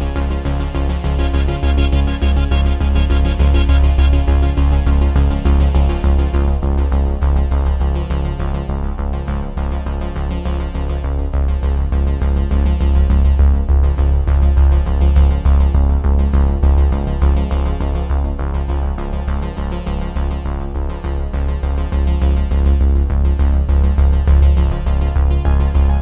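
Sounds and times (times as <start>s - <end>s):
electronic music with heavy bass: 0.0s - 26.0s.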